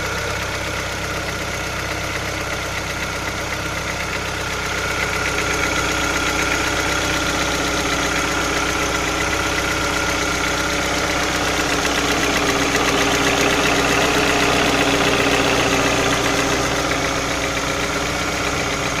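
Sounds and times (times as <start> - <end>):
car engine running with knock: 0.0 - 19.0.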